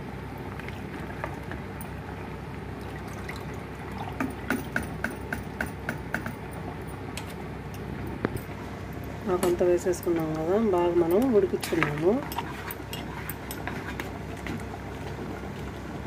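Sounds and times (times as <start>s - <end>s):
pot bubbling: 0.3s - 8.0s, 8.6s - 16.0s.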